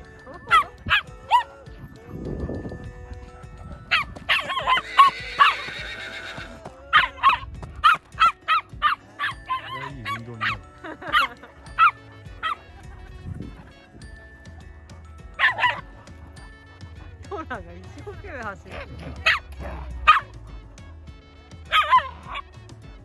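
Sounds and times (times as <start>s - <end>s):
dogs barking: 0.0s - 1.8s, 3.0s - 5.8s, 6.8s - 17.3s, 18.6s - 22.7s.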